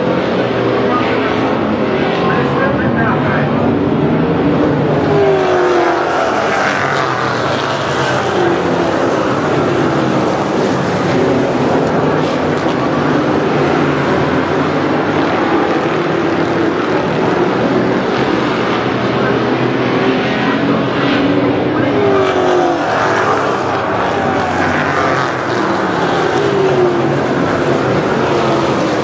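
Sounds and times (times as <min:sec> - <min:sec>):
stock car engines racing: 0:00.0 - 0:29.0.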